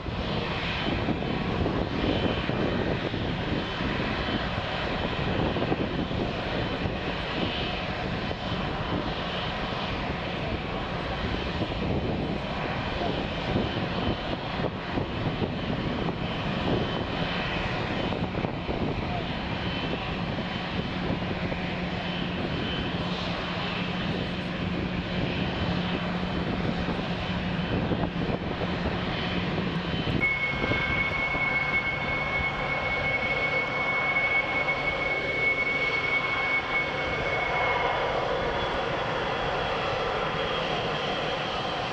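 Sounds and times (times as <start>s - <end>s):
high-pitched engine whine: 0.0s - 41.9s
jet engines taxiing: 0.0s - 41.9s.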